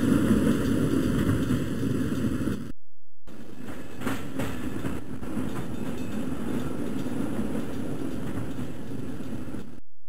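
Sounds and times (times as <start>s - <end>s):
train clacks: 0.0s - 2.7s, 3.3s - 9.8s
subway train rumble: 0.0s - 9.8s.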